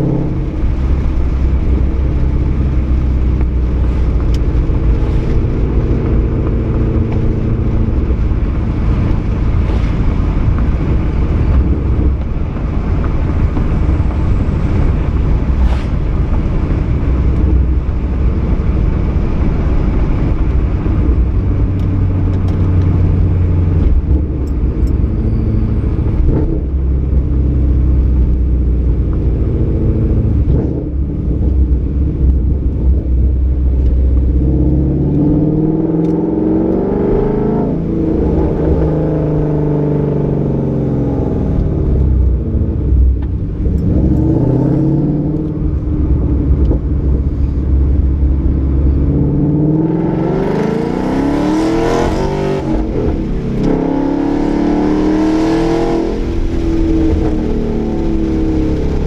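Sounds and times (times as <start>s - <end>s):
car exhaust deep rumble: 0.0s - 59.0s.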